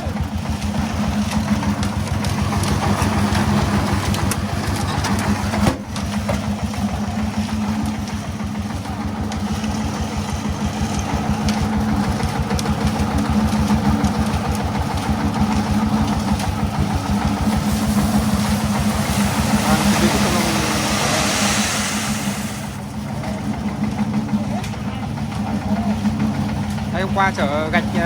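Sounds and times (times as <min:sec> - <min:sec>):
diesel engine idling: 0:00.0 - 0:28.0
engine knock: 0:00.0 - 0:28.0.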